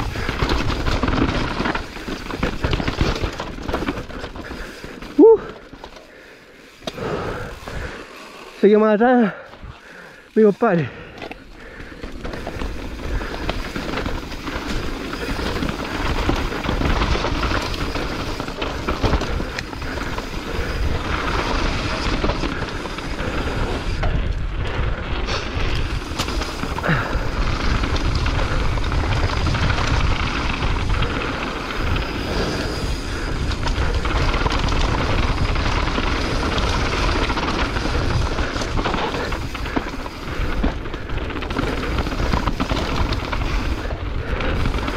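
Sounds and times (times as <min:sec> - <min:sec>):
bike tyres rolling over dirt: 0:00.0 - 0:44.9.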